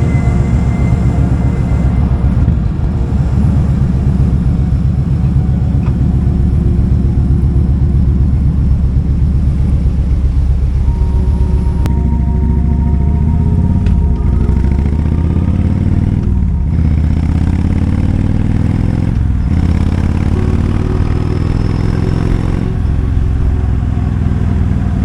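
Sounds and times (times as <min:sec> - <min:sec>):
motorcycle engine rumbling: 0:00.0 - 0:25.0.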